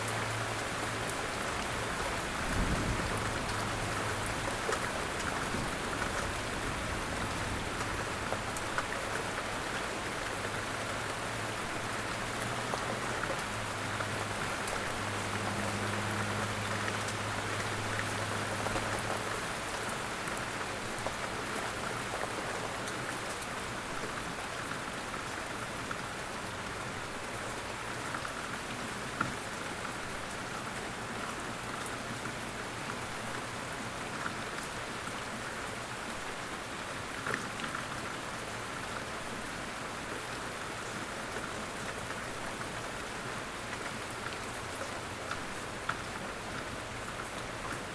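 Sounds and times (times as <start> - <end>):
steady rain hiss: 0.0 - 47.9.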